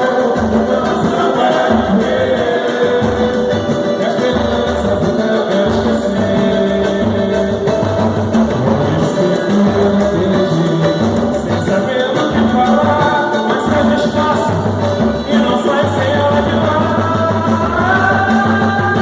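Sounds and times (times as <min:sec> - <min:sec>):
low percussion beat: 0:00.0 - 0:19.0
samba band singing and playing: 0:00.0 - 0:19.0.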